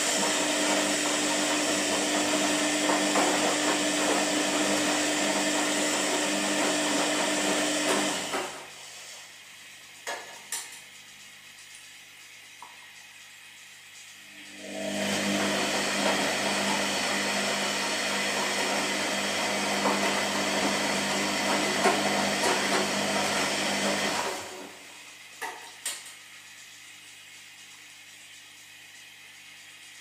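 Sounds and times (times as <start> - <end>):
washing machine running: 0.0 - 30.0.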